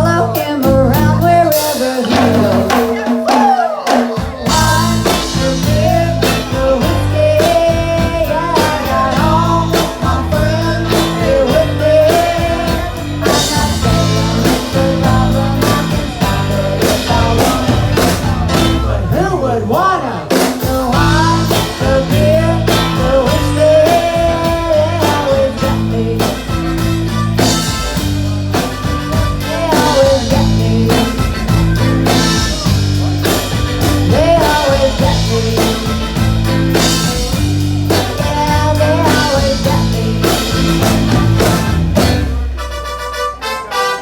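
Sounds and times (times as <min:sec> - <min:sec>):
bass: 0:00.0 - 0:03.1, 0:04.2 - 0:44.0
drum beat: 0:00.0 - 0:19.4, 0:20.2 - 0:42.6
bending lead melody: 0:04.2 - 0:19.6, 0:20.9 - 0:44.0.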